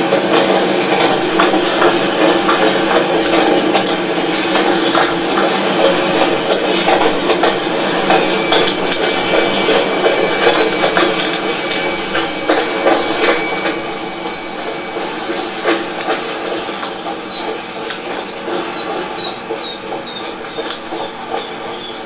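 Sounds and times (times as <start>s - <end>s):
freight wagons rumbling on rails: 0.0s - 22.0s
high wheel squeaks: 0.4s - 22.0s.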